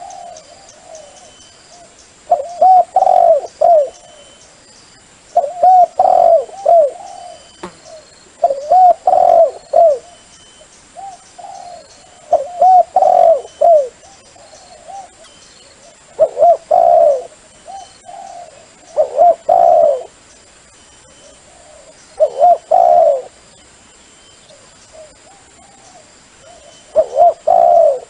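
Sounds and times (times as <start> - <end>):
dove cooing: 0.0 - 4.3, 5.4 - 10.3, 11.0 - 20.2, 21.1 - 23.4, 24.5 - 28.0.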